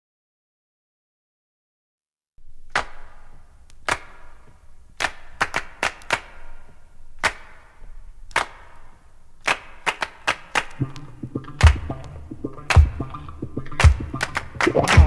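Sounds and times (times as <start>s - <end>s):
handclaps with short echo: 2.7s - 15.0s.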